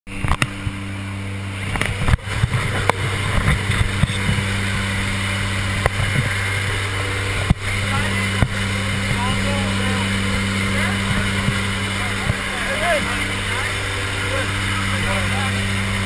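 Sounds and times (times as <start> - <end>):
propeller aircraft engines droning: 0.1 - 16.0.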